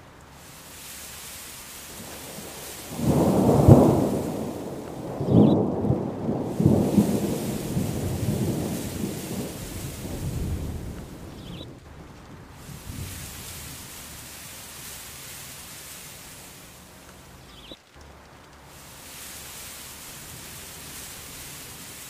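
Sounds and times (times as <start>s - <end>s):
steady rain hiss: 0.0s - 22.0s
thunder rumbling: 0.6s - 17.8s, 18.6s - 22.0s.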